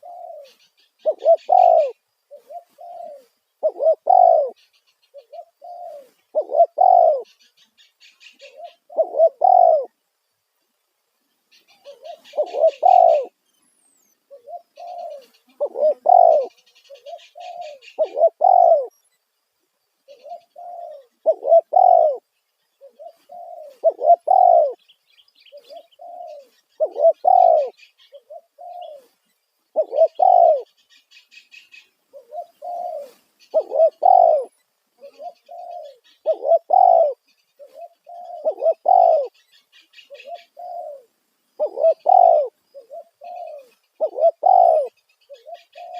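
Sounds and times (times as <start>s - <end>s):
dove cooing: 0.0s - 10.0s, 11.7s - 13.4s, 14.3s - 19.0s, 20.1s - 24.8s, 25.5s - 29.1s, 29.7s - 31.0s, 31.7s - 45.9s
faint high chirping: 0.0s - 45.9s.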